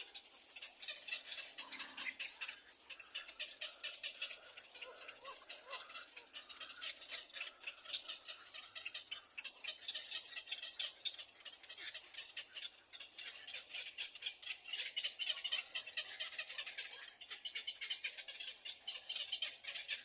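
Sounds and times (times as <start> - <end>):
chicks begging calls: 0.0 - 20.0.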